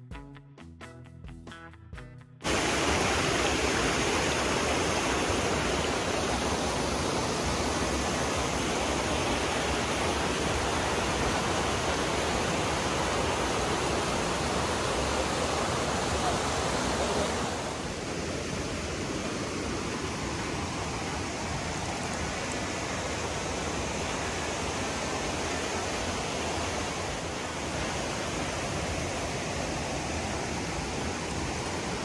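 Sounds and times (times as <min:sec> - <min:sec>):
waterfall rushing: 0:02.4 - 0:32.0.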